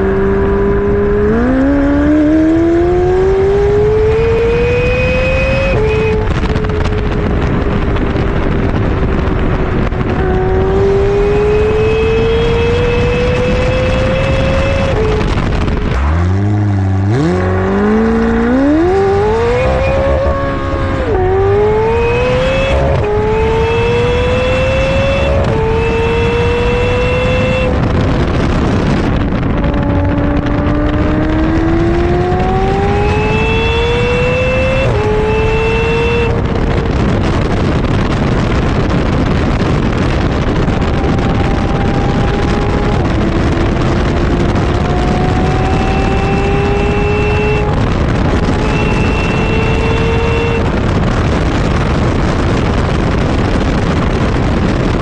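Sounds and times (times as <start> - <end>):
car engine accelerating hard: 0.0 - 55.0
wind rush: 0.0 - 55.0.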